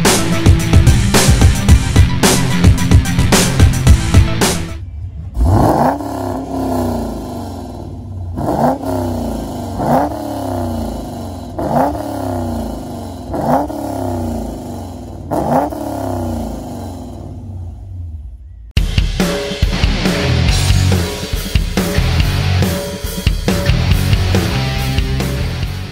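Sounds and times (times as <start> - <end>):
car engine idling and revving: 0.0 - 18.8, 20.0 - 25.9.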